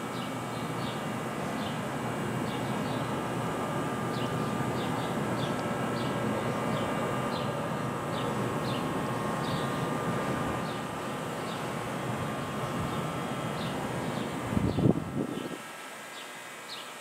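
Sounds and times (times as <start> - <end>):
electric train humming: 0.0 - 16.6.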